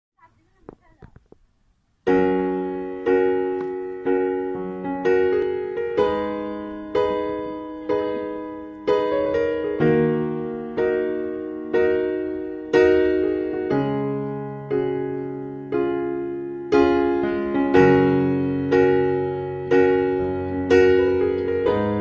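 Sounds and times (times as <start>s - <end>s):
piano chords: 2.0s - 22.0s.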